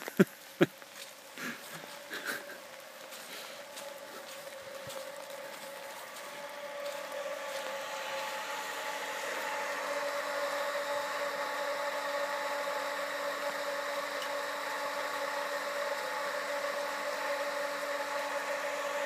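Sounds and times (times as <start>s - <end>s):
drainage pump whirring: 0.0s - 19.0s.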